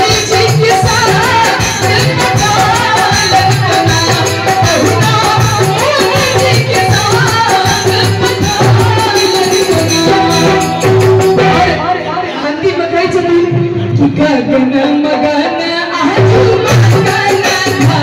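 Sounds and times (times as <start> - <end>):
keyboard playing: 0.0 - 18.0
percussion: 0.0 - 18.0
woman singing into microphone: 0.0 - 18.0.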